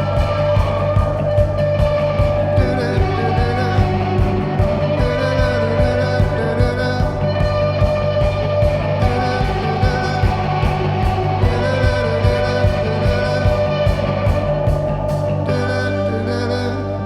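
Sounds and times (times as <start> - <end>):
drum beat: 0.0 - 15.6
person singing: 0.0 - 17.0
rock band playing live: 0.0 - 17.0.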